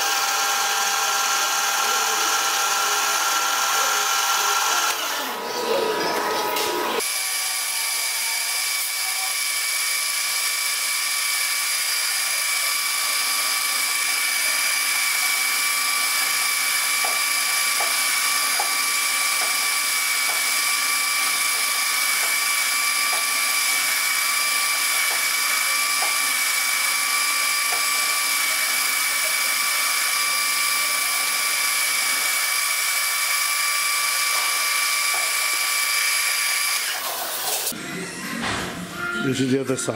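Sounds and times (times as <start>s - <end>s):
metal lathe motor whine: 0.0s - 37.6s.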